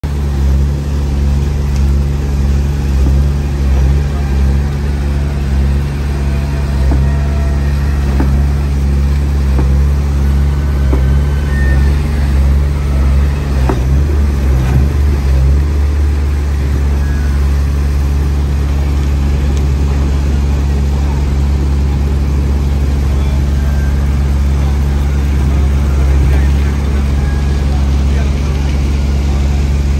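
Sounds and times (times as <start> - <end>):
heavy diesel machinery running: 0.0 - 29.9.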